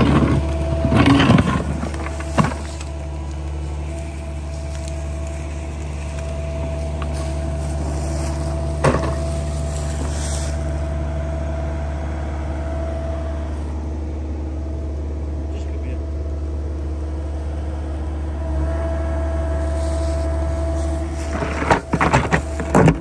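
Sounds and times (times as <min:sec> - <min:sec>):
mini excavator diesel engine: 0:00.0 - 0:23.0.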